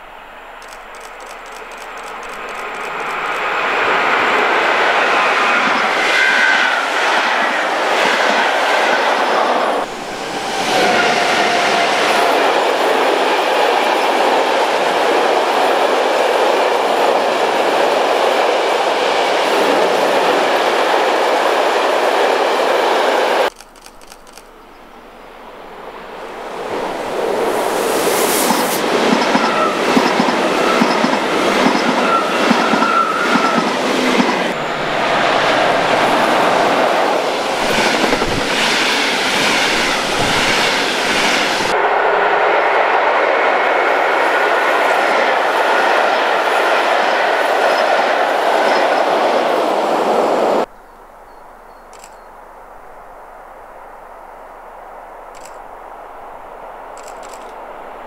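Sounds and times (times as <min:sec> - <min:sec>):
high-speed train approaching: 0:00.0 - 0:50.7, 0:53.6 - 0:58.0
train passing: 0:00.0 - 0:50.7, 0:53.6 - 0:58.0.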